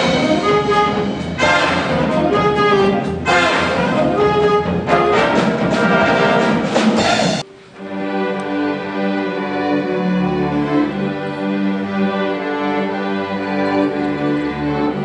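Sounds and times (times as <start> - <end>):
jazz band playing: 0.0 - 12.8
string orchestra bowed notes: 0.0 - 15.0.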